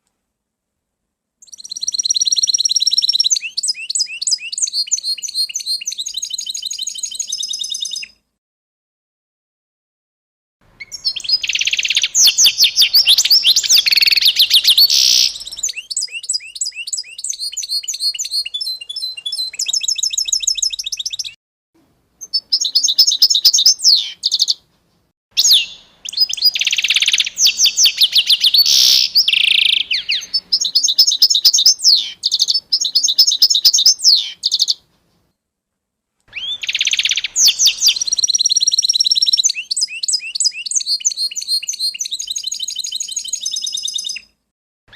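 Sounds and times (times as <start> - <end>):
small songbirds singing: 1.4 - 8.2, 10.8 - 21.4, 22.2 - 24.6, 25.4 - 34.8, 36.3 - 44.3.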